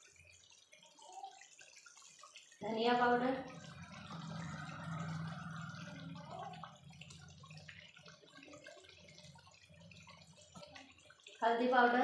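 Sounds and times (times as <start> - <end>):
gravy simmering and bubbling: 0.0 - 12.0.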